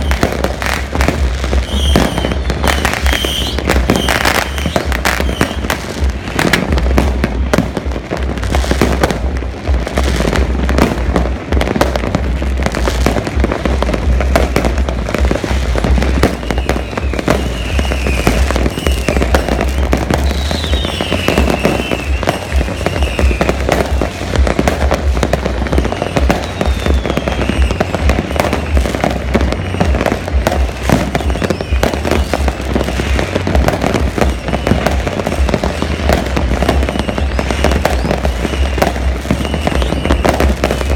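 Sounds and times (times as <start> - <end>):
whistling rockets: 0.0 - 9.3, 9.9 - 40.9
fireworks crackling and banging: 0.0 - 40.9.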